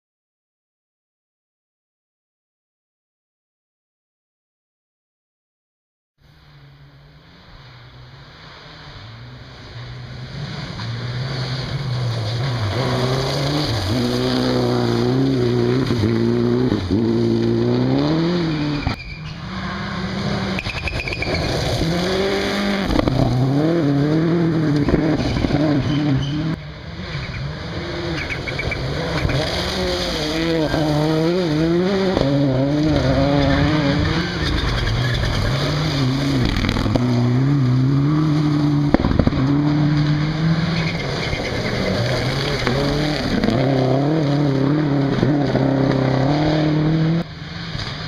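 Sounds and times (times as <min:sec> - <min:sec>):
rally car engine revving: 0:06.4 - 0:48.0.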